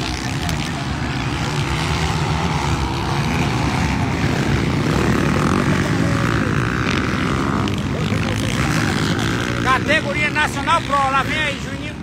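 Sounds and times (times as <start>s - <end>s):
motocross bike engines: 0.0s - 12.0s.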